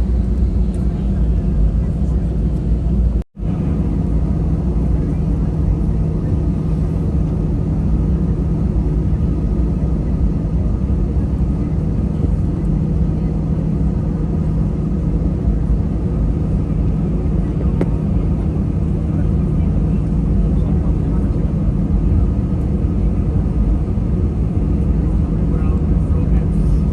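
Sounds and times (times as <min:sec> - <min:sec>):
jet cabin engine rumble: 0:00.0 - 0:26.9.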